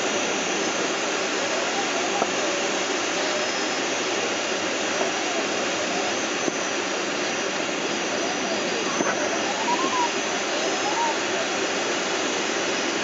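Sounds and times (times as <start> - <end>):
faint wavering tone: 1.4 - 13.0.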